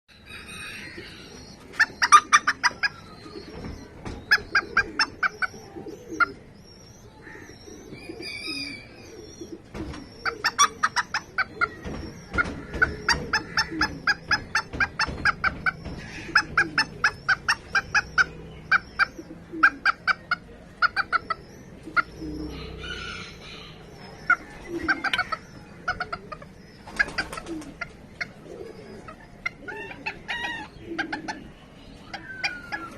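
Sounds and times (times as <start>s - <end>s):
chickens clucking: 0.1s - 32.9s.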